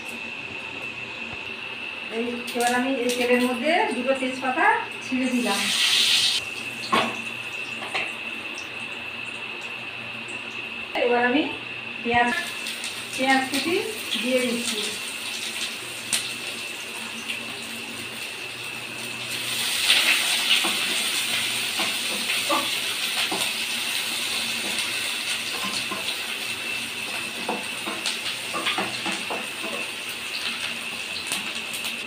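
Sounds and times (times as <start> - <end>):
onions sizzling in hot oil: 2.1 - 8.3, 12.1 - 32.0.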